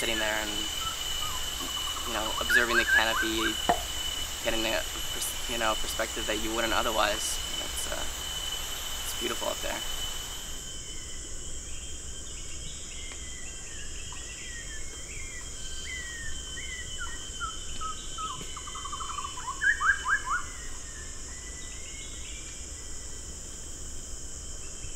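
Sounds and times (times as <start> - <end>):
forest birds calling: 0.0 - 22.6
high-pitched insect drone: 0.0 - 24.9.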